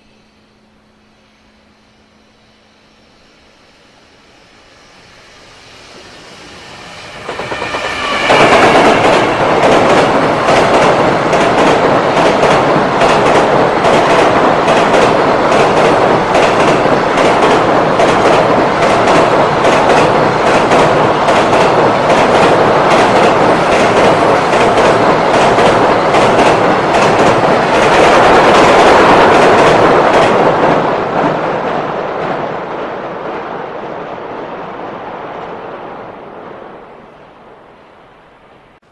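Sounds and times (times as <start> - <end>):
locomotive passing: 2.5 - 38.2.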